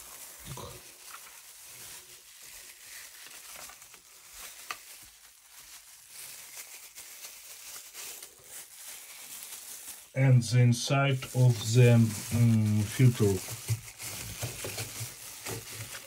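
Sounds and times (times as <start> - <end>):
plastic gloves crinkling: 0.0 - 16.0.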